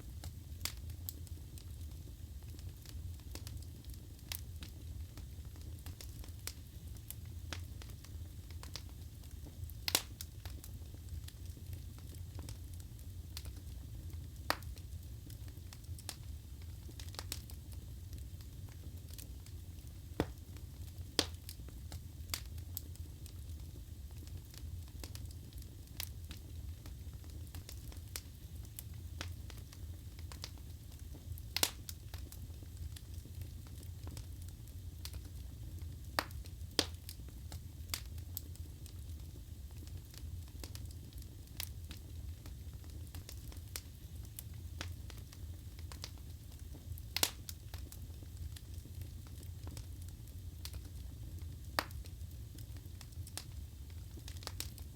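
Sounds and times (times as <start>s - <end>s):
burning logs crackling and popping: 0.0s - 54.9s
low rumble of flames: 0.0s - 54.9s.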